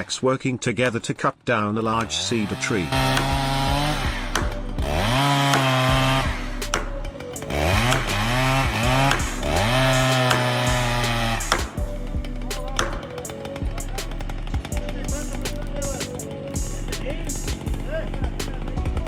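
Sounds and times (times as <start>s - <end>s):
chainsaw revving: 1.8s - 19.0s.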